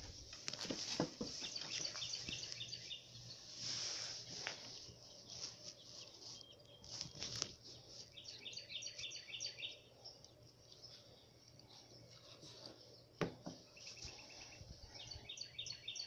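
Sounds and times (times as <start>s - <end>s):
faint birdsong chirping: 0.0s - 16.0s.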